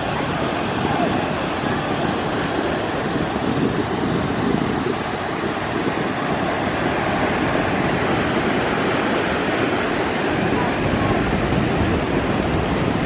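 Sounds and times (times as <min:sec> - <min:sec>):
ocean surf on beach: 0:00.0 - 0:13.0.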